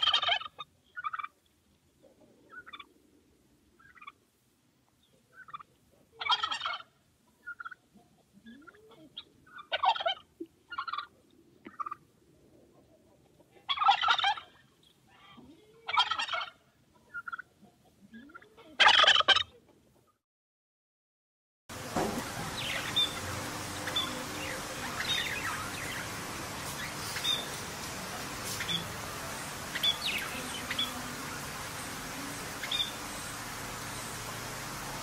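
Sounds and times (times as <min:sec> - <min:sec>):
fainter turkey calls: 0:00.0 - 0:01.4, 0:02.0 - 0:03.0, 0:03.8 - 0:04.2, 0:05.0 - 0:12.1, 0:12.7 - 0:19.7, 0:22.5 - 0:34.2
turkey gobbling: 0:00.0 - 0:01.4, 0:02.0 - 0:02.9, 0:03.8 - 0:04.2, 0:05.0 - 0:19.8, 0:22.2 - 0:34.2.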